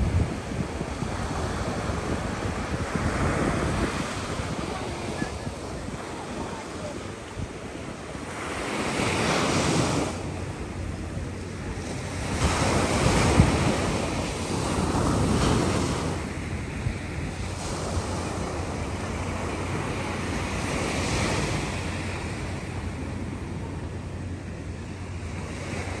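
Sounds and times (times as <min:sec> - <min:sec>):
small waves breaking on beach: 0:00.0 - 0:26.0
wind on microphone: 0:00.0 - 0:26.0.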